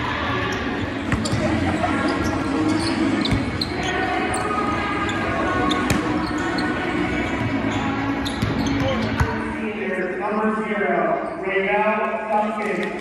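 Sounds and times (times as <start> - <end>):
echoing background chatter: 0.0 - 13.0.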